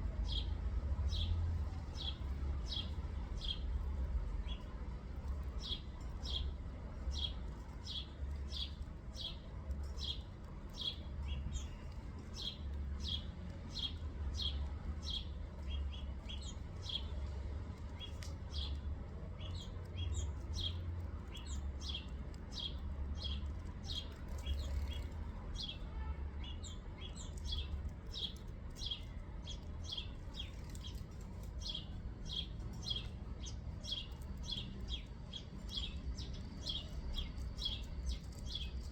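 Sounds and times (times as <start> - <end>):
songbird chirping: 0.1 - 38.9.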